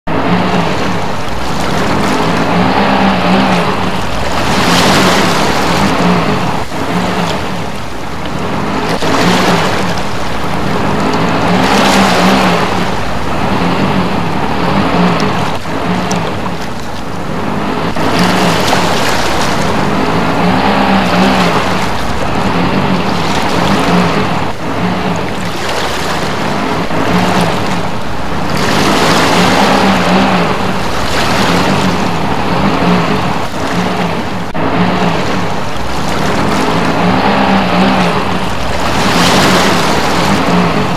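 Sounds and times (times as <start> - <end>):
car engine running: 0.0 - 40.9
muddy water sloshing: 0.1 - 40.9.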